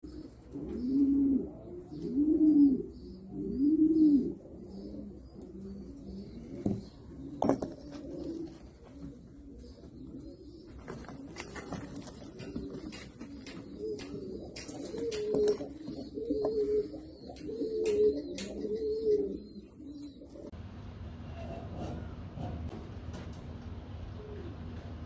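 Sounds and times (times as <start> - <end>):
pigeon cooing: 0.0 - 22.8, 24.0 - 25.0.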